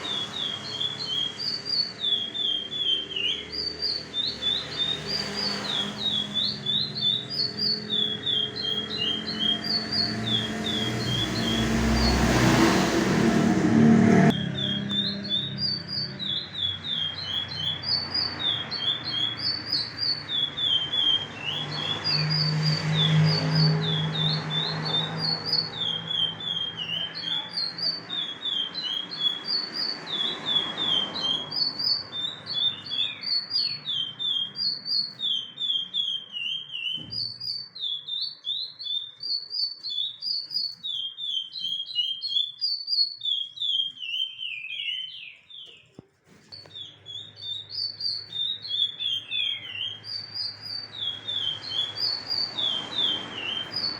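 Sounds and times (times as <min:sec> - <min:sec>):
finch singing whistled notes: 0:00.0 - 0:12.8, 0:14.1 - 0:53.9.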